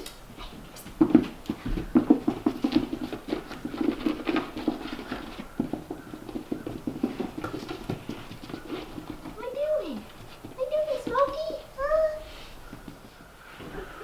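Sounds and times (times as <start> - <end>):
puppy paws pattering: 0.0 - 14.0.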